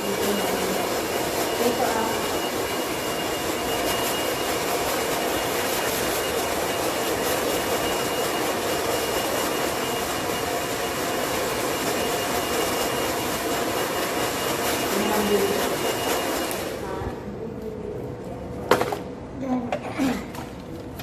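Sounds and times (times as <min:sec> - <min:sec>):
thin high whine: 0:00.0 - 0:17.1.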